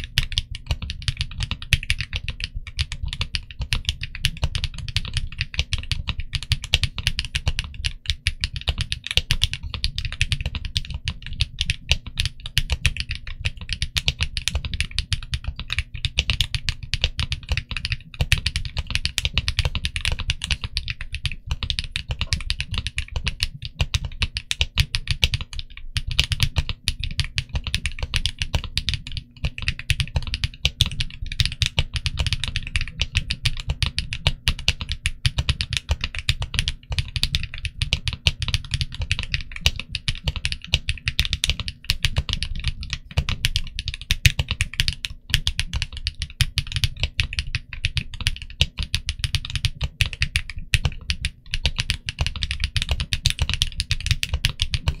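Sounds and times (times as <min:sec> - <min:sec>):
fast typing on mechanical keyboard: 0:00.0 - 0:55.0.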